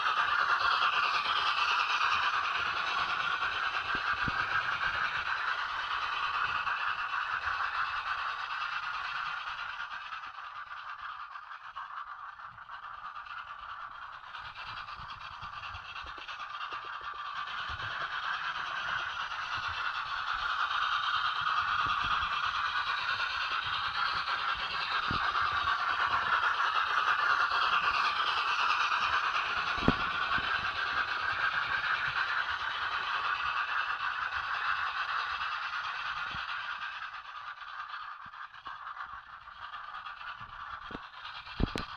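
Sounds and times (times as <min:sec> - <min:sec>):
model trains whirring on rails: 0:00.0 - 0:41.9.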